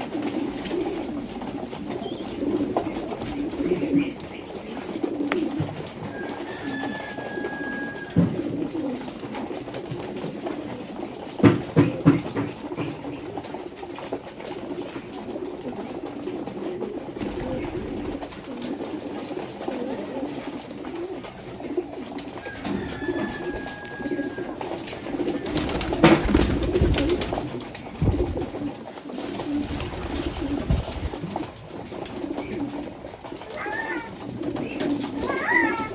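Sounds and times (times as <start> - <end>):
pigeons cooing: 0.0 - 35.9.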